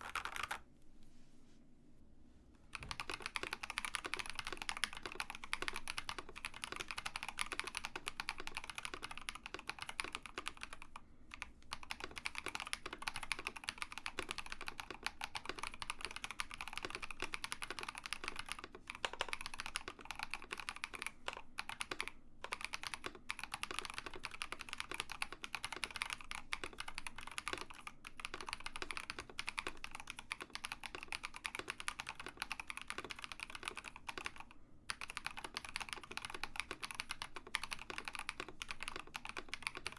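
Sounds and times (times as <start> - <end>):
fast typing on mechanical keyboard: 0.0 - 0.6, 2.7 - 39.9.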